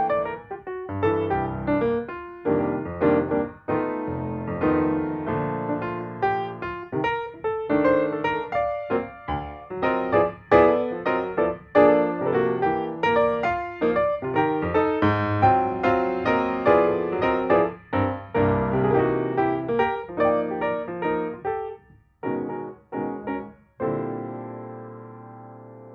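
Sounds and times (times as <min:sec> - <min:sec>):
lively piano music: 0:00.0 - 0:25.9.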